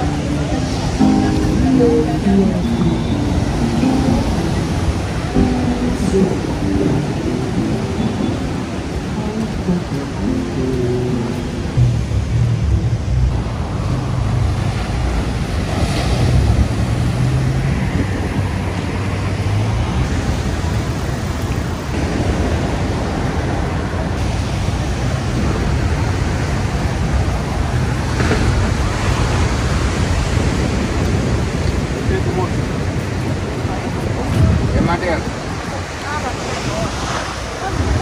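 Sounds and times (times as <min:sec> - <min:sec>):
ocean surf: 0:00.0 - 0:38.0
wind rumbling on microphone: 0:02.0 - 0:38.0.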